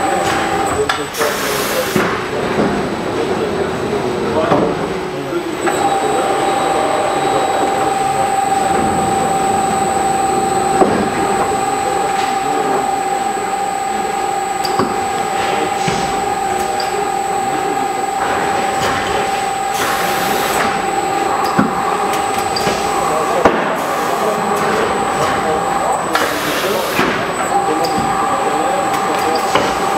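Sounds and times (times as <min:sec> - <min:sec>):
wrapping machine humming: 0:05.2 - 0:29.9.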